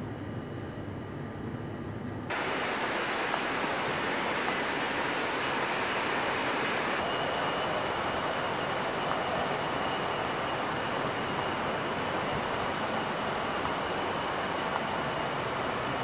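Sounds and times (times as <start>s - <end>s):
faint high whine: 0.0s - 16.0s
train rushing noise: 2.3s - 16.0s.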